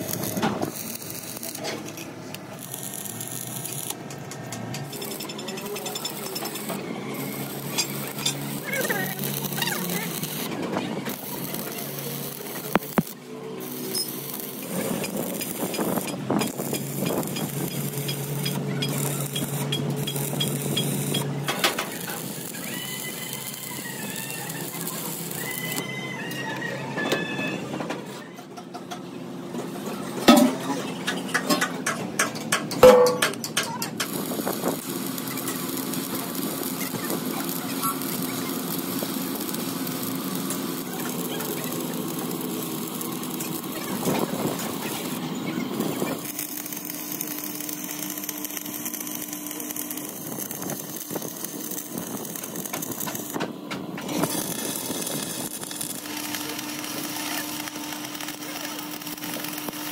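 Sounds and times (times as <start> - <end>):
welding arc crackling: 0.0 - 25.8, 31.8 - 59.9.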